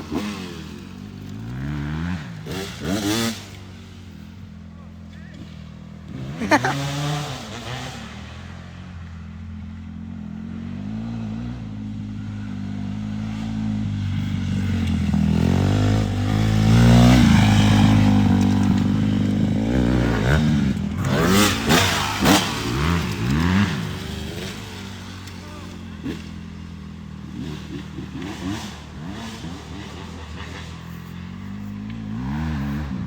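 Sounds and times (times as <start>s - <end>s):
dirt bike engine revving: 0.0s - 8.7s, 10.2s - 33.0s.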